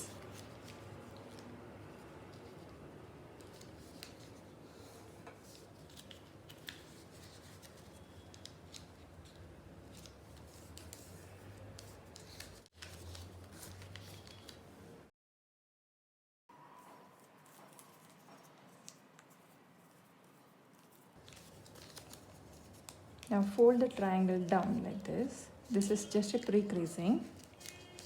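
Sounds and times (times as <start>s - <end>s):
paper crinkling and creasing: 0.1s - 14.7s, 17.2s - 28.0s.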